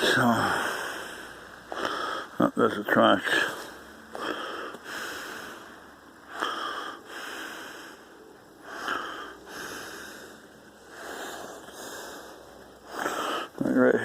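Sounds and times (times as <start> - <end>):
man breathing heavily: 0.0 - 2.5, 3.2 - 14.0.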